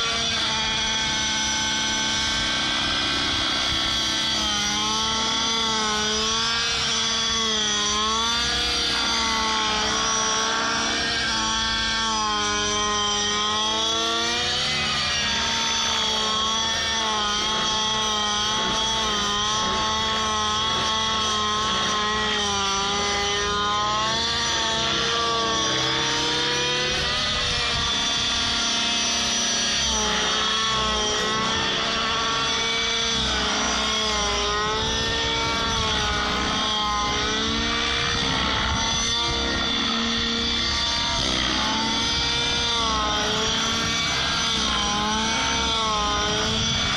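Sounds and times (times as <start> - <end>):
model helicopter engine wavering: 0.0 - 46.9.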